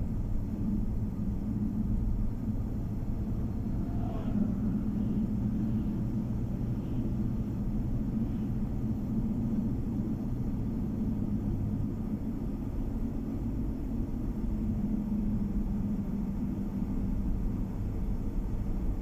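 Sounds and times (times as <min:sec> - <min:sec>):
car cabin road drone: 0:00.0 - 0:19.0.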